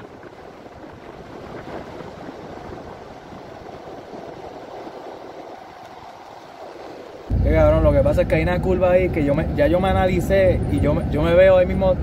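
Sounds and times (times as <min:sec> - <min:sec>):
wheels rumbling on asphalt: 0:00.0 - 0:12.0
wind noise on microphone: 0:00.0 - 0:12.0.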